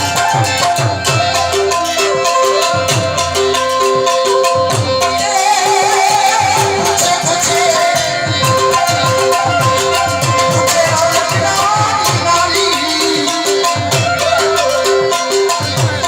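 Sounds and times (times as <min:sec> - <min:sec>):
hand drum rhythm: 0:00.0 - 0:16.0
held melody notes: 0:00.0 - 0:16.0
wavering lead melody: 0:00.0 - 0:16.0.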